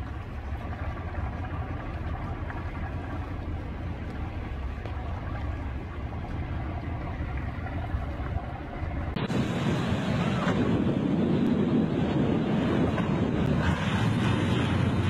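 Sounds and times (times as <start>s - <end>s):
motorboat engine droning: 0.0s - 15.0s
surf: 0.0s - 15.0s
wind: 0.0s - 15.0s.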